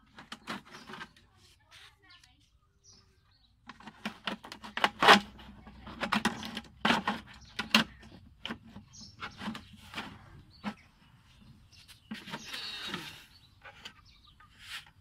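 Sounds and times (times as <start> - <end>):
plastic knocks and scrapes: 0.0 - 1.9, 3.6 - 15.0.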